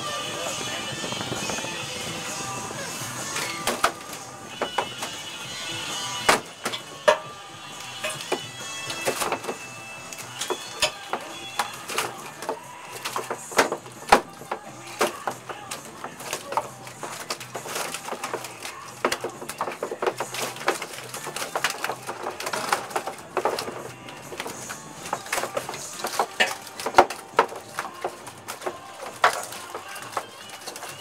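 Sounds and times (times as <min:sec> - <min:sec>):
gulls calling: 0:00.0 - 0:31.0.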